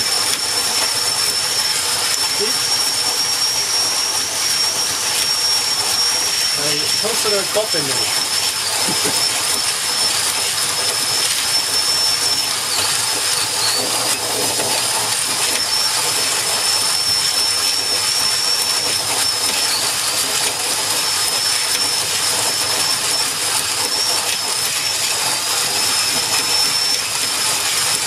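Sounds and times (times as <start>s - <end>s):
coffee beans grinding: 0.0s - 28.0s
power drill motor whine: 0.0s - 28.0s.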